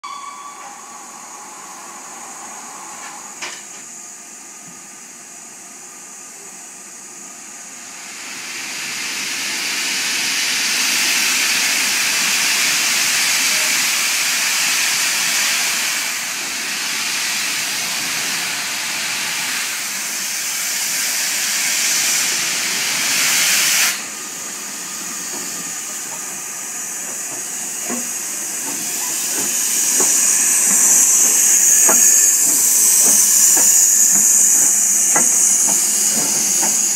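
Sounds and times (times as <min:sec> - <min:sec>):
steam locomotive hissing steam: 0:00.0 - 0:36.9.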